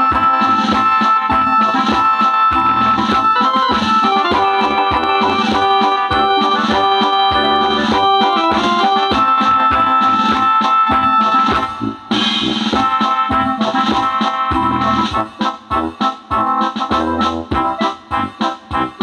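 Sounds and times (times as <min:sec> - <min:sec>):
steady beat: 0:00.0 - 0:19.0
sustained keyboard chords: 0:00.0 - 0:19.0.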